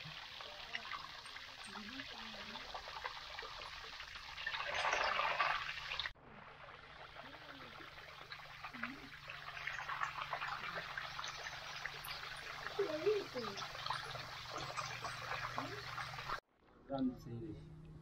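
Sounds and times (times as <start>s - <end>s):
liquid pouring and trickling: 0.0s - 16.4s.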